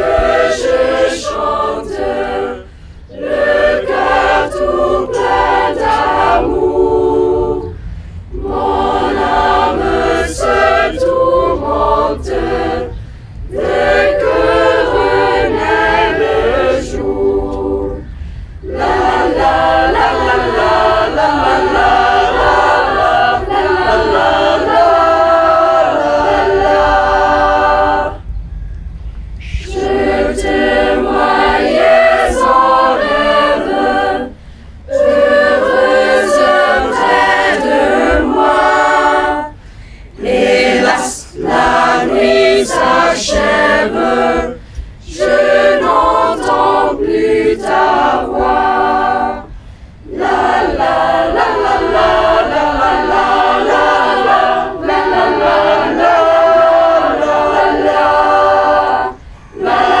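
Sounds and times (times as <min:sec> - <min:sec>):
youth choir singing a cappella: 0:00.0 - 0:28.4, 0:29.4 - 1:00.0.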